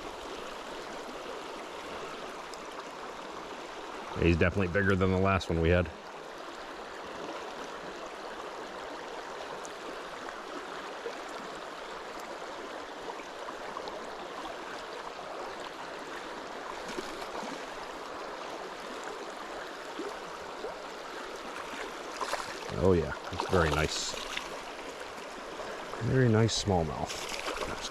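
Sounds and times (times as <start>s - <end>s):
river water rushing: 0.0s - 27.9s.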